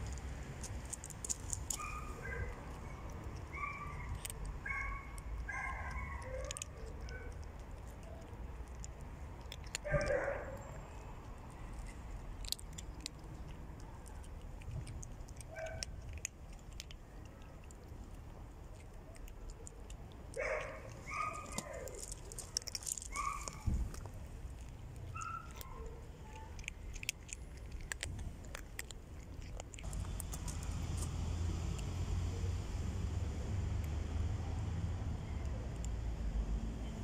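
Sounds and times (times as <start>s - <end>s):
cats crunching dry kibble: 0.0s - 37.0s.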